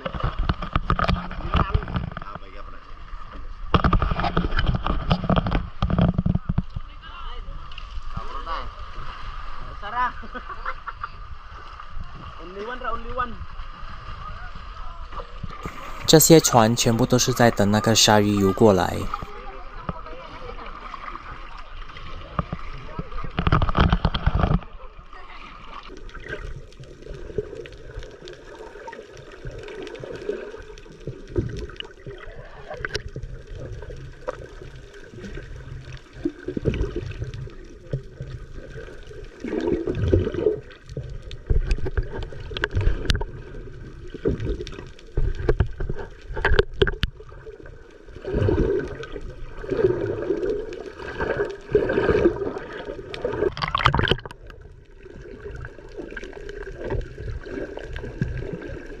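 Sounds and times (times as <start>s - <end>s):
sea water sloshing and gurgling: 0.0s - 59.0s
water splashes: 0.0s - 59.0s.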